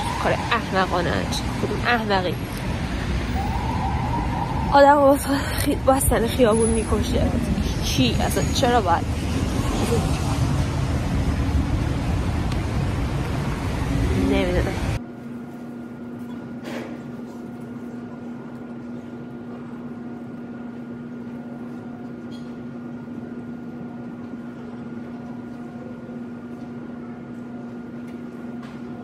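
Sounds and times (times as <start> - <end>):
room hum: 0.0 - 29.0.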